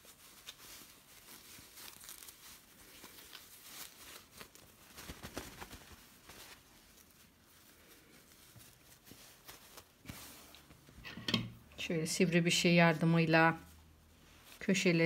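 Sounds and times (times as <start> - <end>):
fabric swishes: 0.0 - 11.0, 11.6 - 15.0
satin fabric rustling: 0.0 - 15.0.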